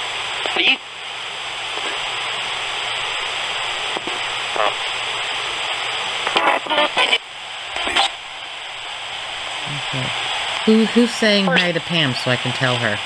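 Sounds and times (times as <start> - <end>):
radio static hiss: 0.0 - 13.0
fragments of broadcast voices: 0.3 - 13.0.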